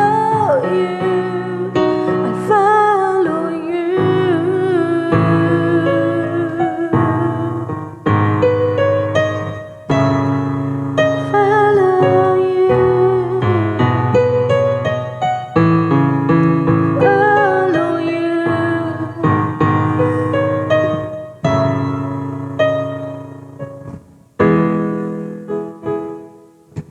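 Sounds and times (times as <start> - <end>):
piano keyboard chords and melody: 0.0 - 26.9.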